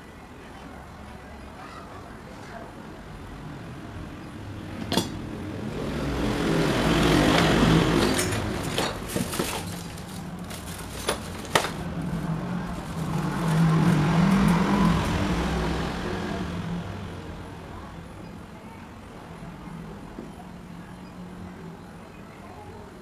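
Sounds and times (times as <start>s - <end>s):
passing motor vehicles: 2.8s - 23.0s.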